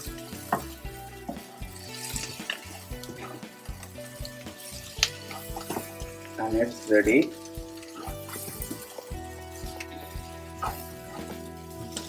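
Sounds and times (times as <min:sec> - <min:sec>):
background music: 0:00.0 - 0:12.0
filling sizzling in a frying pan: 0:00.0 - 0:12.0.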